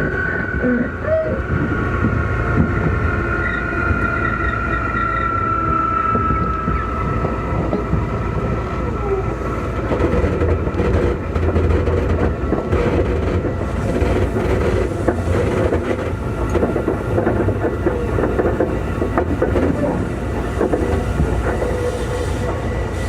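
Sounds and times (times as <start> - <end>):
train wheel and rail rumble: 0.0 - 23.0.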